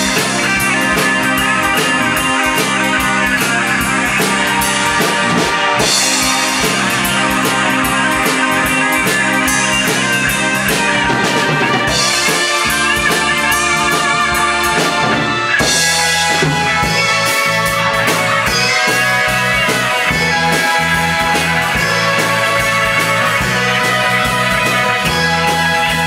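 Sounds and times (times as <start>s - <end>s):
bass guitar: 0.0s - 26.0s
drum kit with cymbal hits: 0.0s - 26.0s
electric guitar lead with bent notes: 0.0s - 26.0s.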